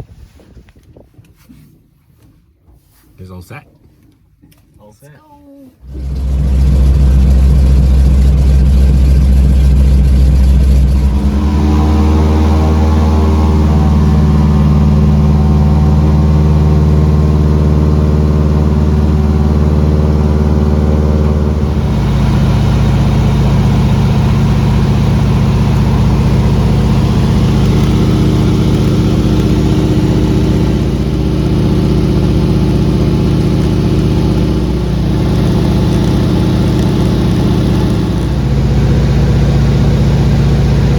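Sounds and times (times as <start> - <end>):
loud engine running: 5.8 - 40.9.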